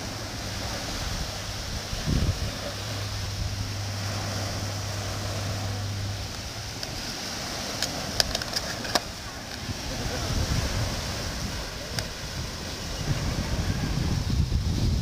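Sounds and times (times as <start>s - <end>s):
low engine-like hum: 0.0s - 15.0s
waves: 0.0s - 15.0s
wind: 0.0s - 15.0s.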